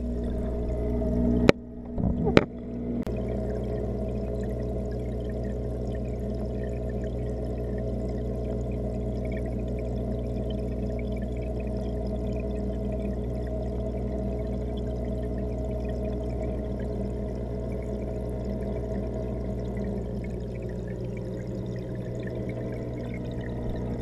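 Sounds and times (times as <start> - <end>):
aquarium hum and water: 0.0 - 24.0.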